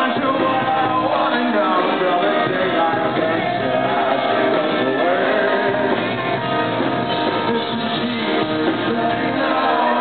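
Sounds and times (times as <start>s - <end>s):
man singing: 0.0s - 6.5s, 7.2s - 10.0s
electric guitar: 0.0s - 10.0s.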